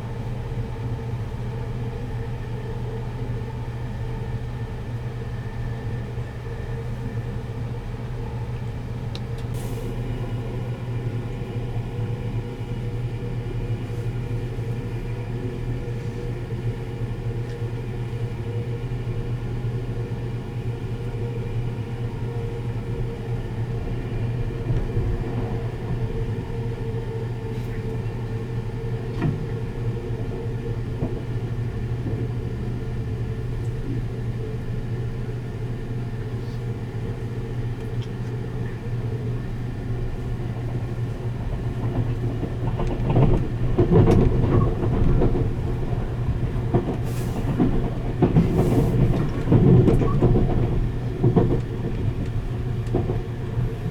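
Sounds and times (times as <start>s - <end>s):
train running hum and rumble: 0.0s - 53.9s.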